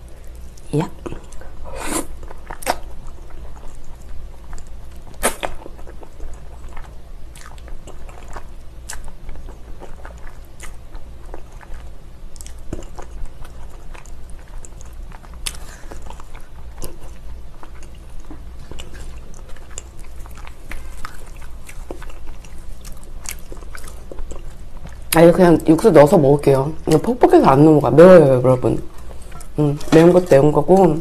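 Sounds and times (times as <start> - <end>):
wet chewing: 0.2 - 25.3.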